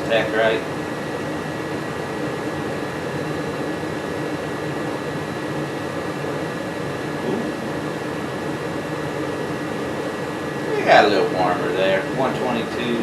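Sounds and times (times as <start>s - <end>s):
furnace blower whoosh: 0.0s - 13.0s.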